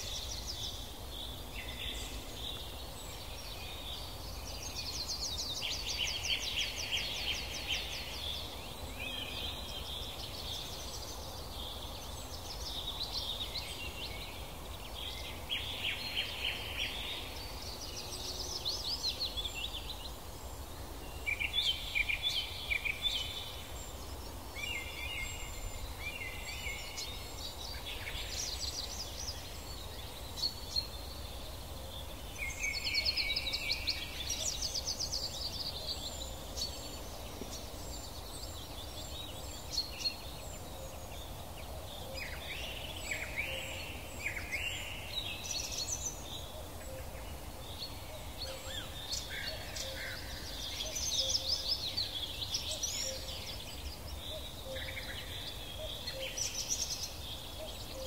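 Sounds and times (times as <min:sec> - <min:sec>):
low outdoor background noise: 0:00.0 - 0:58.0
songbirds singing: 0:00.0 - 0:58.0.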